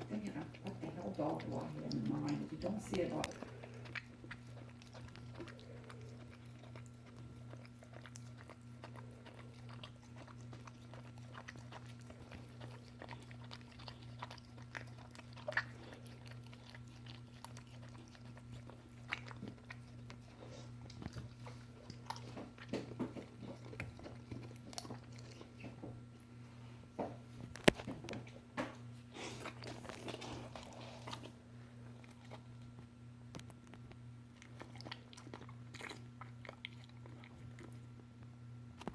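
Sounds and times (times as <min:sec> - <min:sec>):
dog chewing and licking: 0:00.0 - 0:26.6, 0:27.4 - 0:38.1
steady low hum: 0:00.0 - 0:38.9.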